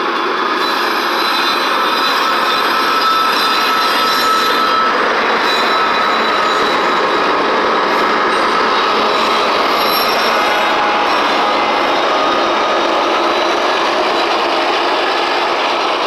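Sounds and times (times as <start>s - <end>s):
high wheel squealing: 0.0s - 16.0s
train wheels on rail: 0.0s - 16.0s.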